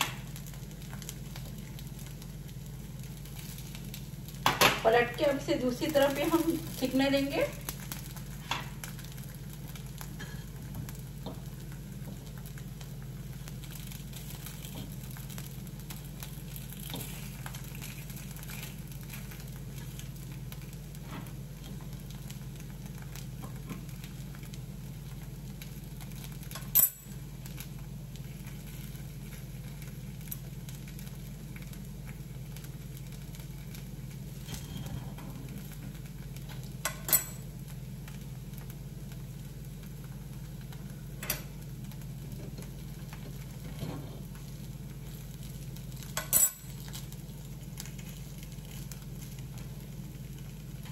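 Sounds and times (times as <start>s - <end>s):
batter sizzling in a pan: 0.0s - 50.9s
steady low hum: 0.0s - 50.9s.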